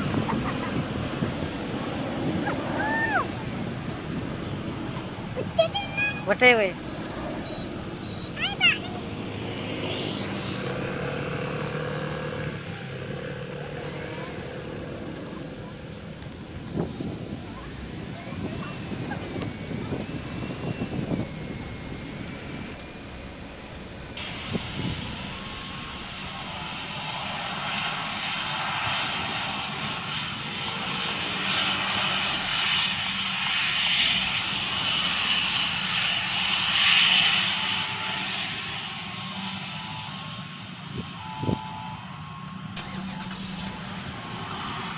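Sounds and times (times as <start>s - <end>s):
engine humming: 0.0s - 44.9s.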